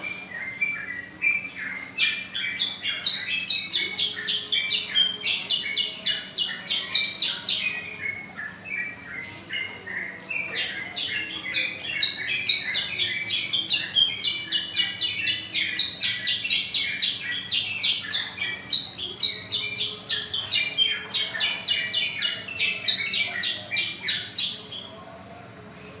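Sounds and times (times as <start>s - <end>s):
canary singing rapid chirps: 0.0s - 26.0s.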